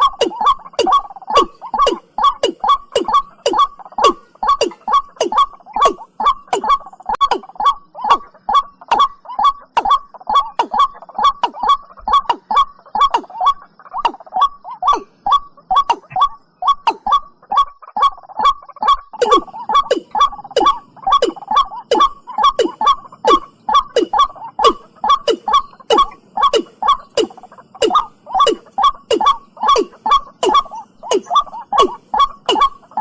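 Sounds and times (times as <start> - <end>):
bird calling hollow notes: 0.0 - 33.0.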